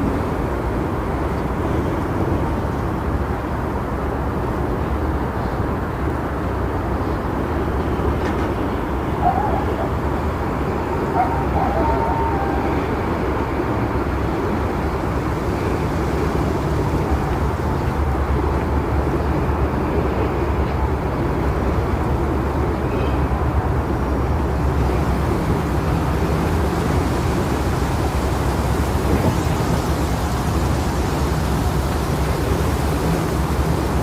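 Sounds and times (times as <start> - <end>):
blizzard wind rushing: 0.0 - 22.7, 23.4 - 34.0
wind buffeting microphone: 0.0 - 34.0.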